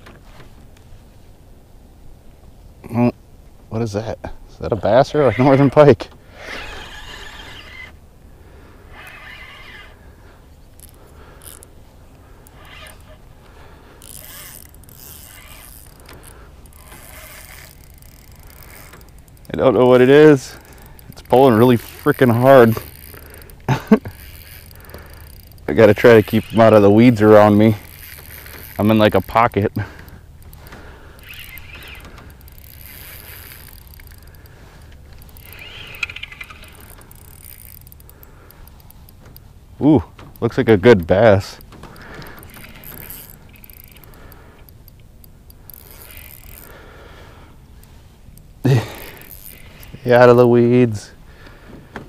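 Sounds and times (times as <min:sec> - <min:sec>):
fishing reel whirring and clicking: 0:05.3 - 0:39.5, 0:40.3 - 0:51.6.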